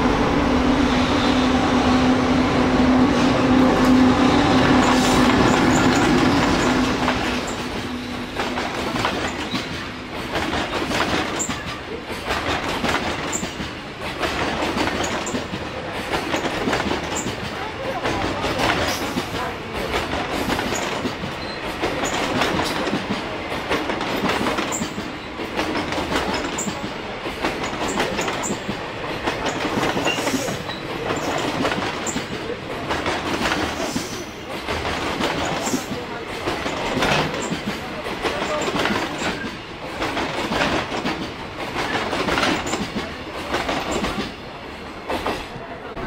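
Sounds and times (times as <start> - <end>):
freight train wheels rumbling: 0.0 - 46.0
wheels clacking over rail joints: 3.8 - 44.4.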